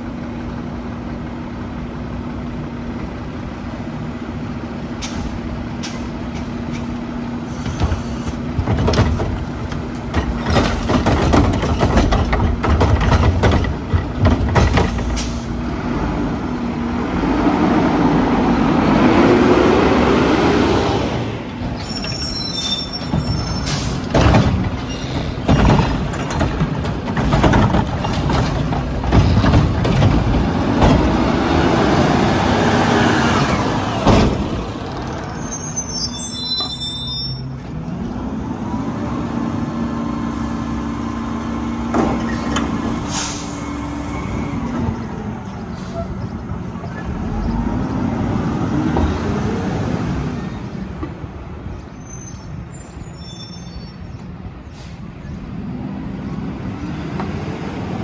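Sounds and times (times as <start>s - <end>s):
garbage truck engine and hydraulics: 0.0s - 58.0s.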